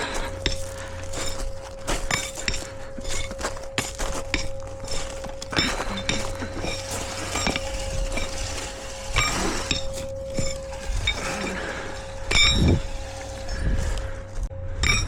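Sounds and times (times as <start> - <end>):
steel stakes clanking together: 0.0 - 15.0.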